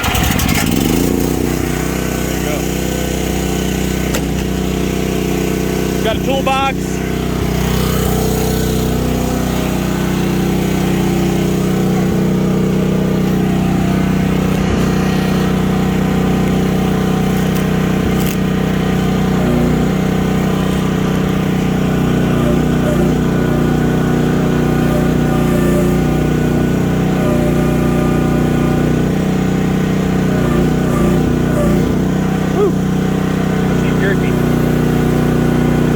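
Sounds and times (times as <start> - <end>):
small engine running: 0.0 - 35.9.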